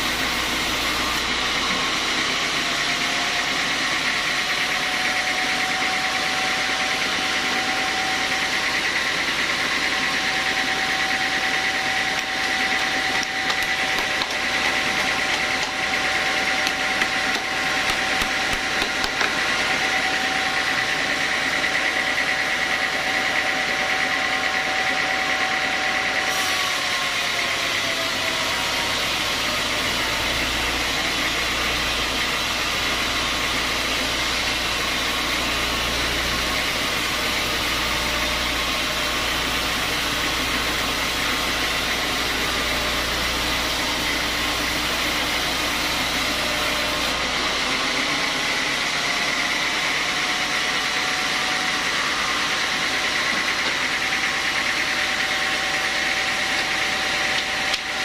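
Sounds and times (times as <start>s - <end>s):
band sawmill blade sawing log: 0.0s - 58.0s.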